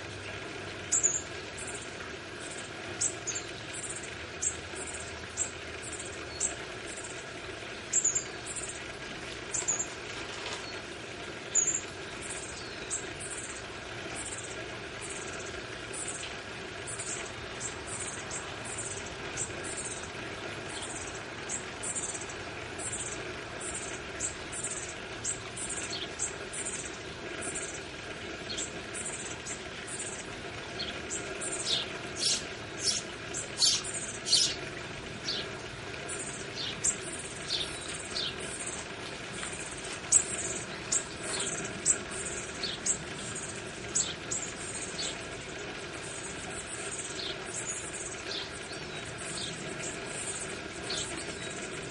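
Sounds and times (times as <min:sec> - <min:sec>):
low background hum: 0:00.0 - 0:51.9
birds calling high thin notes: 0:09.5 - 0:51.9.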